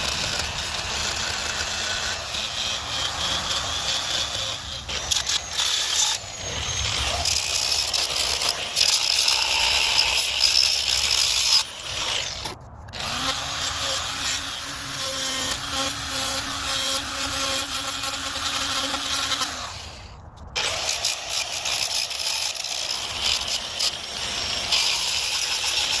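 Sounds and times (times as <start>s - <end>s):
power carving tool grinding wood: 0.0s - 26.0s.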